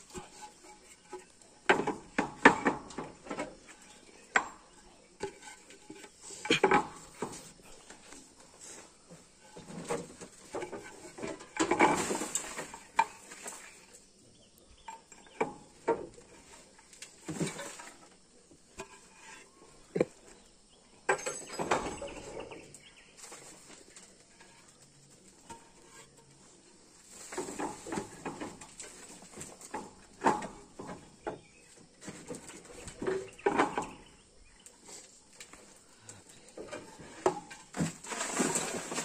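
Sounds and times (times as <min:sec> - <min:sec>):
clay roof tiles clinking: 0:00.0 - 0:39.0.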